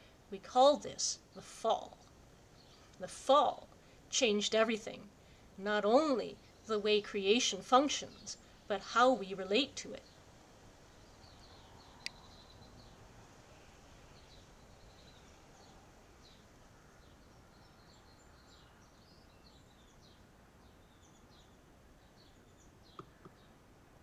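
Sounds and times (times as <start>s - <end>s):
small birds chirping: 0.0s - 23.7s
low background hiss: 0.0s - 24.0s.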